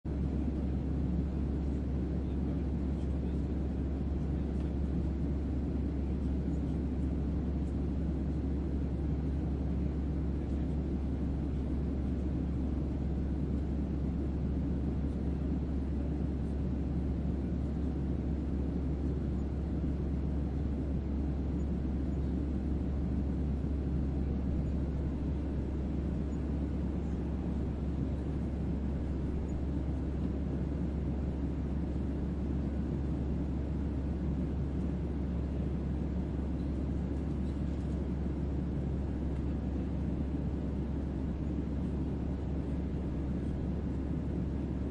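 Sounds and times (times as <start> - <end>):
airplane engine rumble: 0.0 - 44.9.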